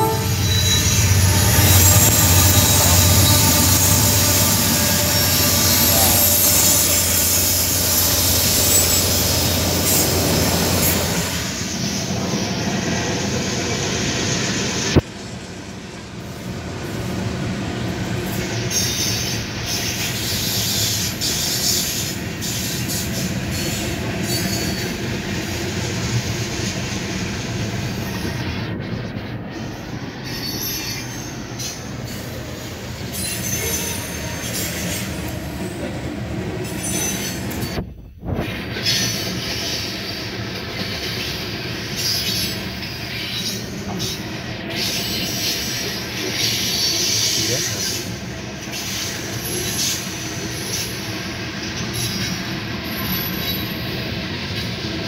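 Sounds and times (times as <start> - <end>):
diesel locomotive drone: 0.0 - 55.0
train wheels on rails: 0.0 - 55.0.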